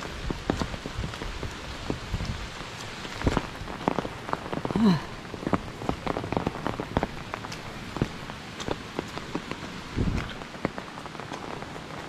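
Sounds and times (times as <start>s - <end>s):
raindrops striking close by: 0.0s - 12.0s
steady rain falling: 0.0s - 12.0s.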